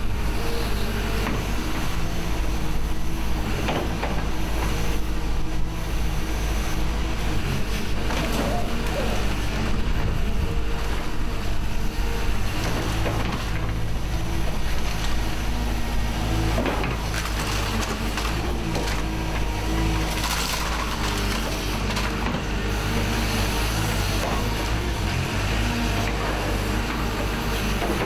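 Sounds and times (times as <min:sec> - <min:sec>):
excavator engine and hydraulics: 0:00.0 - 0:28.0.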